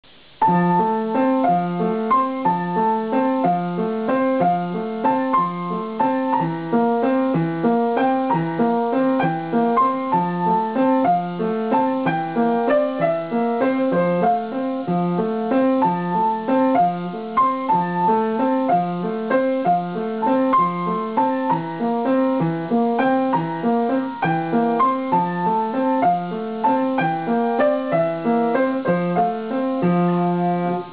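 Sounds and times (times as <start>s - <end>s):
piano playing: 0.0s - 30.9s.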